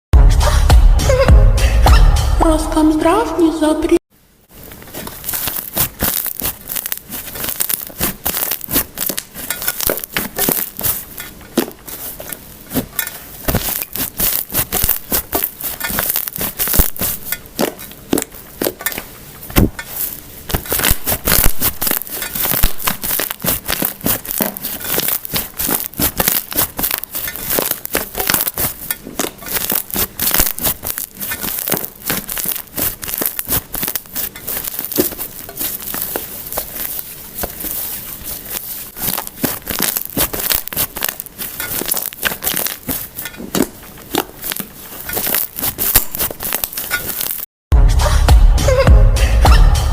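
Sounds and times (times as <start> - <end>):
slime squished by hand: 4.6 - 47.4.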